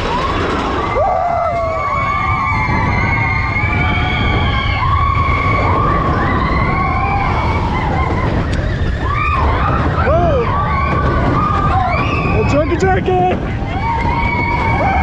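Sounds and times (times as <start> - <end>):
riders whooping and screaming: 0.0 - 15.0
roller coaster rumble: 0.0 - 15.0
wind buffeting microphone: 0.0 - 15.0.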